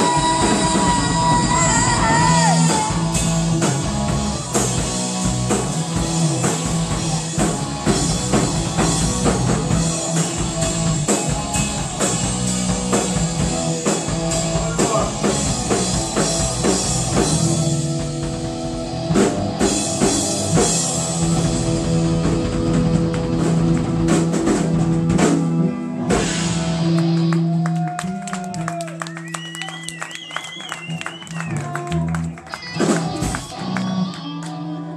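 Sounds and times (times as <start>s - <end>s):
drum kit played hard: 0.0s - 27.7s, 30.7s - 33.8s
electric guitar: 0.0s - 34.9s.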